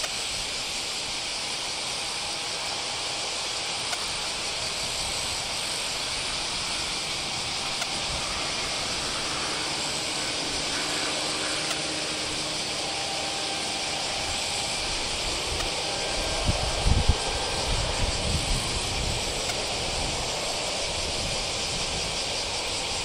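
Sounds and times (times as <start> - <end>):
airport ambience hiss: 0.0 - 23.0
distant jet engine hum: 0.0 - 23.0.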